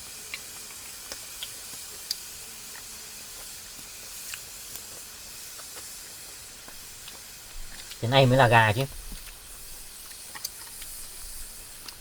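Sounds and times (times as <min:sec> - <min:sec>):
fire pops and crackles: 0:00.0 - 0:12.0
food sizzling over fire: 0:00.0 - 0:12.0.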